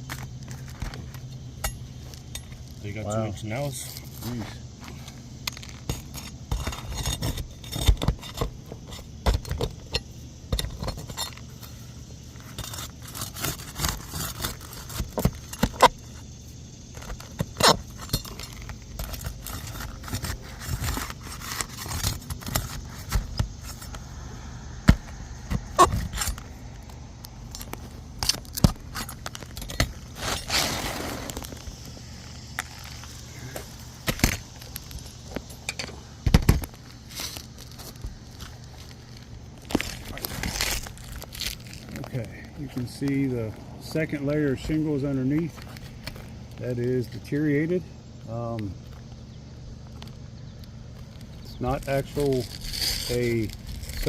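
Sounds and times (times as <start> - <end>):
scraping on shingle: 0.0 - 47.6, 51.0 - 54.0.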